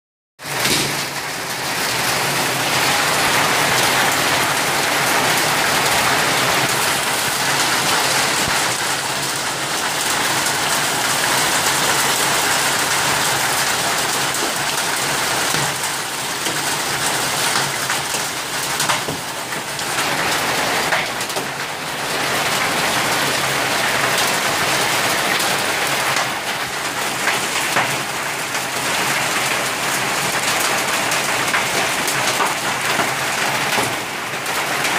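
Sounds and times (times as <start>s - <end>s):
hail falling hard: 0.4s - 34.9s.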